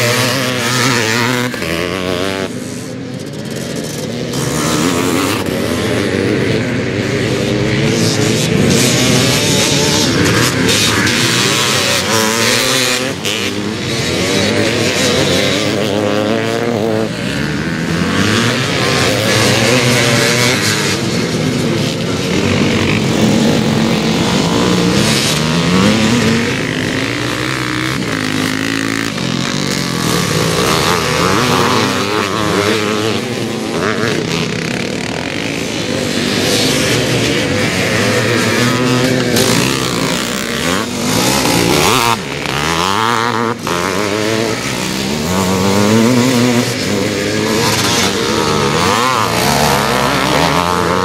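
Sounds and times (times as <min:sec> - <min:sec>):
motocross bikes revving past: 0:00.0 - 0:51.0.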